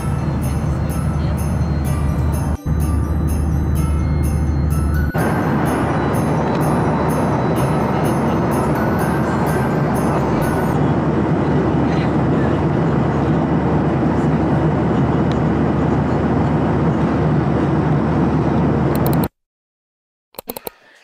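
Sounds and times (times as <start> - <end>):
airliner cabin engine rush: 0.0 - 19.2.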